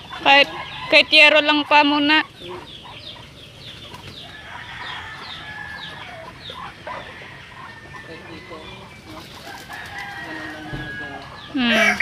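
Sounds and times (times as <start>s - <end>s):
high falling peeps of poultry: 0.0s - 12.0s
poultry clucking: 0.0s - 12.0s.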